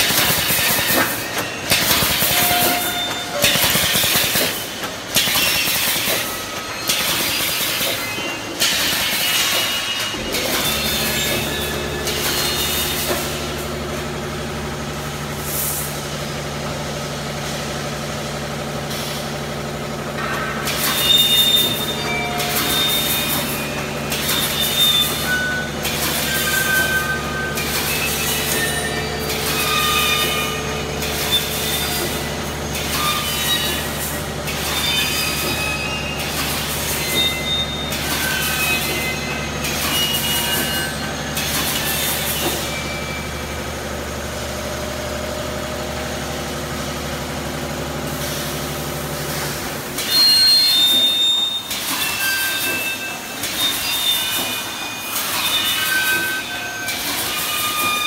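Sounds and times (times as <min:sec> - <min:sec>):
high metallic squeals: 0:00.0 - 0:16.0, 0:20.5 - 0:43.9, 0:49.4 - 0:58.0
welding machine hissing and clattering: 0:00.0 - 0:58.0.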